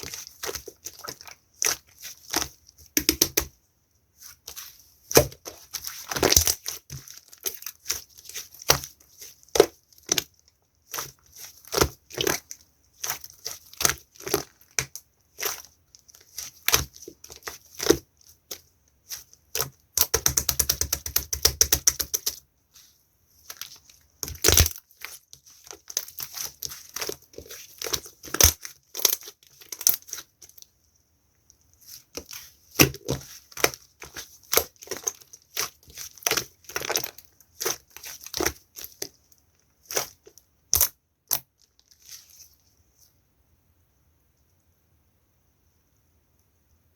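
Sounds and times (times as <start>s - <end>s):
slime popping and crackling: 0.0s - 3.5s, 4.5s - 22.4s, 23.5s - 30.6s, 31.8s - 39.2s, 39.8s - 41.8s.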